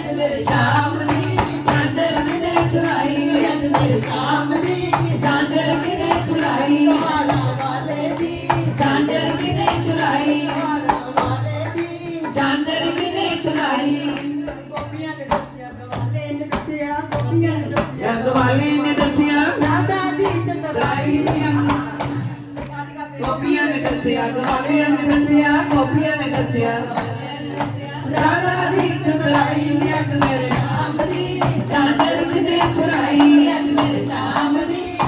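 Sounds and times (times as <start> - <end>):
group clapping to a beat: 0.0 - 35.0
women singing devotional song: 0.0 - 35.0.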